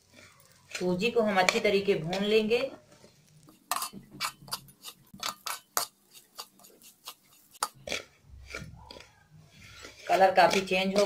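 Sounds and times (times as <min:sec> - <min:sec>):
spatula scraping and tapping pan: 0:00.0 - 0:11.0.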